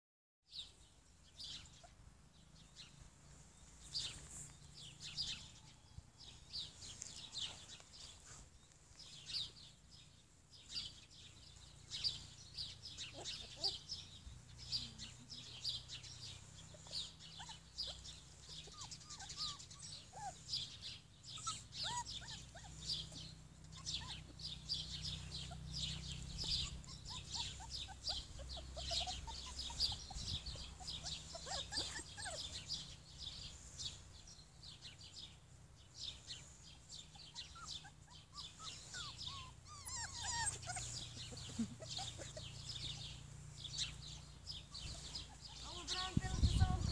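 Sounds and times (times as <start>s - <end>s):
small birds chirping and twittering: 0.5s - 46.9s.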